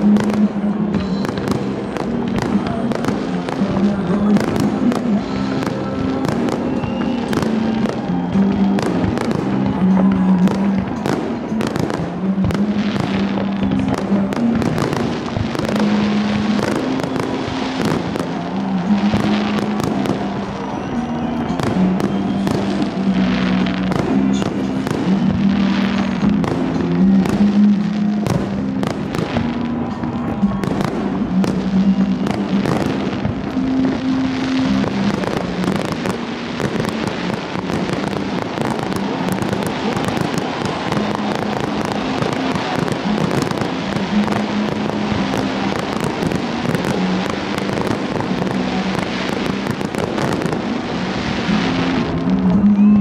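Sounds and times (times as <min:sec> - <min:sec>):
fireworks bursting: 0:00.0 - 0:53.0
music with long held notes: 0:00.0 - 0:53.0.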